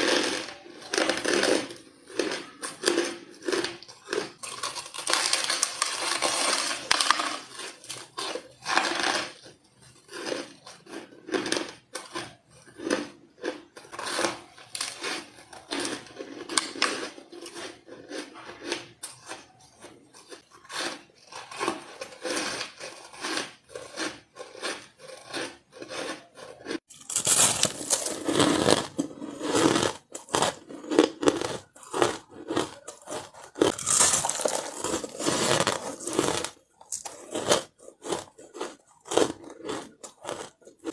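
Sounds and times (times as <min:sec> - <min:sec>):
crunching ice: 0:00.0 - 0:40.9.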